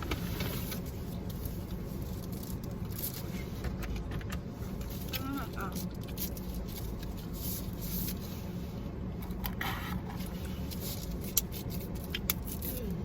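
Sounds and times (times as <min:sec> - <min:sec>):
food rustling and scraping: 0:00.0 - 0:12.9
steady low hum: 0:00.0 - 0:13.0.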